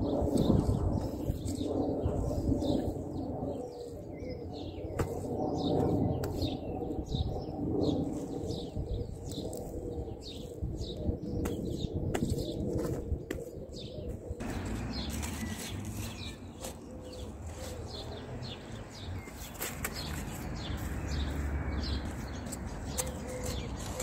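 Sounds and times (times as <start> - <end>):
birds singing: 0.0 - 24.0.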